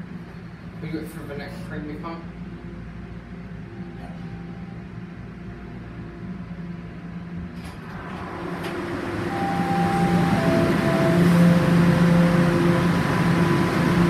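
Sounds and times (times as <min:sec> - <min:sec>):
steady low hum: 0:00.0 - 0:14.0
train rumble: 0:00.0 - 0:14.0.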